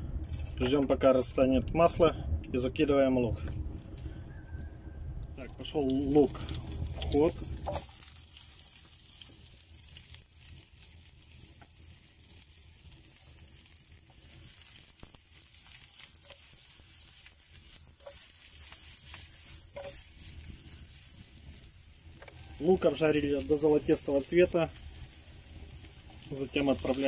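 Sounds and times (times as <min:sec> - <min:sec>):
onion sizzling in butter: 0:05.3 - 0:27.0.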